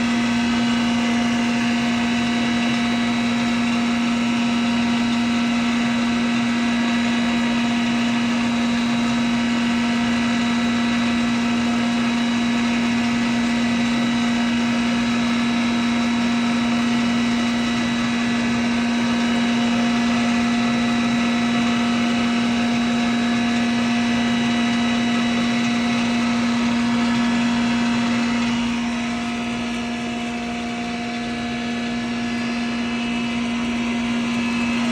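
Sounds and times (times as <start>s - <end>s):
grinding machine motor hum: 0.0s - 34.9s.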